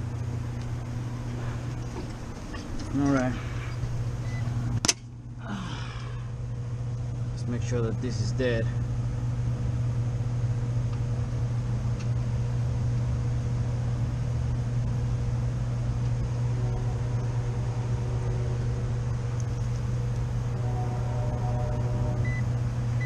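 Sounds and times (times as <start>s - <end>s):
hvac equipment humming: 0.0s - 23.0s.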